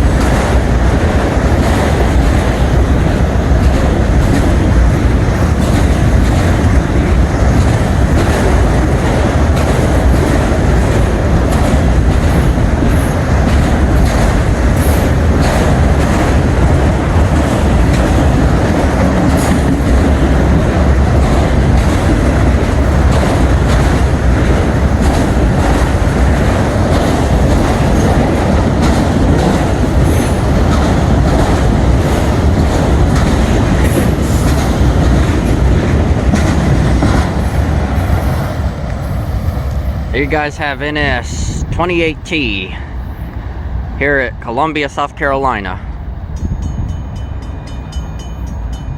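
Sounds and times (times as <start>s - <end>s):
train wheels clicking over joints: 0.0s - 42.3s.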